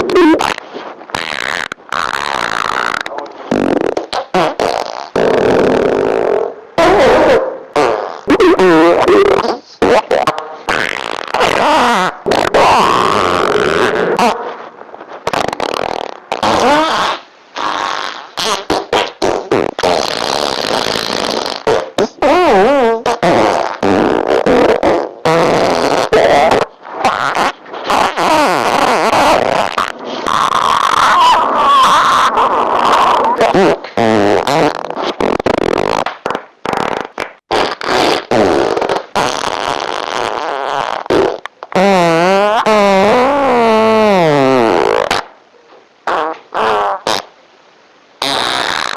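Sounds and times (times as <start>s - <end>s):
farts: 0.0s - 45.3s, 46.0s - 47.3s, 48.2s - 48.9s.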